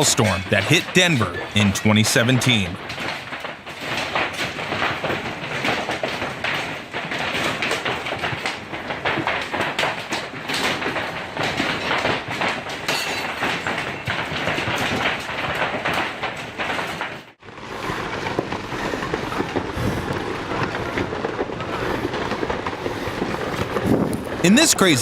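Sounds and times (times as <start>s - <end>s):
hail pounding hard surfaces: 0.0s - 25.0s.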